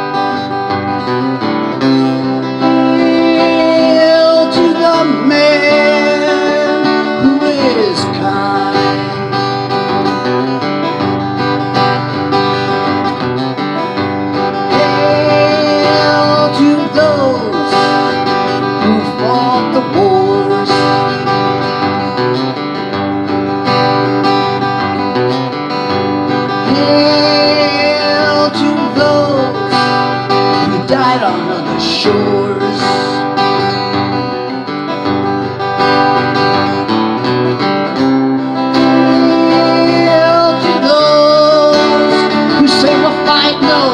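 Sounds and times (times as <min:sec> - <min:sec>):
acoustic guitar strummed and picked: 0:00.0 - 0:43.9.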